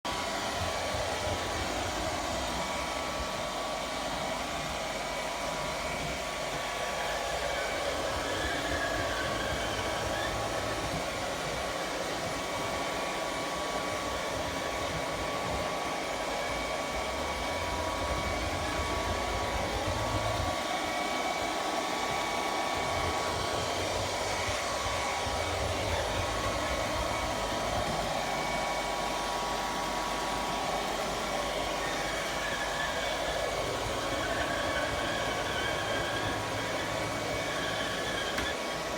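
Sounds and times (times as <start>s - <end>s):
robot vacuum whirring: 0.1s - 38.9s.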